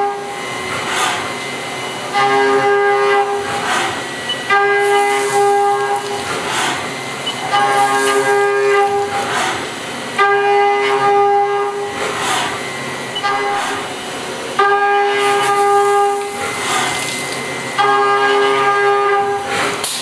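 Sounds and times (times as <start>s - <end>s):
milling cutter whine: 0.0s - 19.9s.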